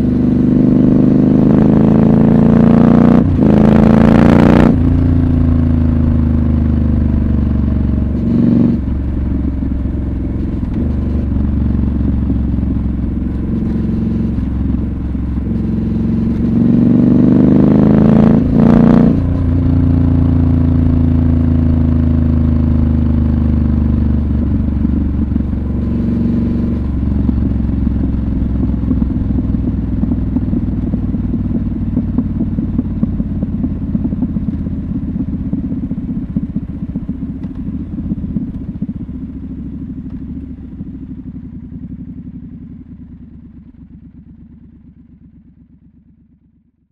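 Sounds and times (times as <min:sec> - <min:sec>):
motorcycle engine while riding: 0:00.0 - 0:46.9.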